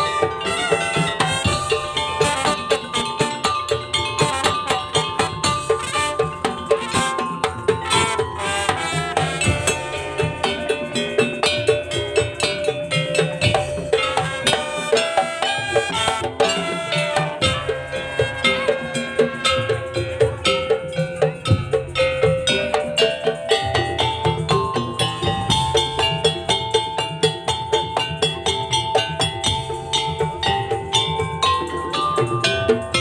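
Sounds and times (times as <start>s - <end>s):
percussion band playing: 0.0s - 33.0s.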